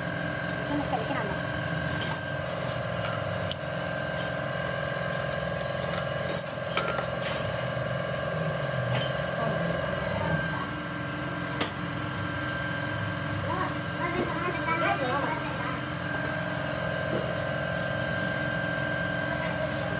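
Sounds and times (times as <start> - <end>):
machine hum: 0.0 - 19.9.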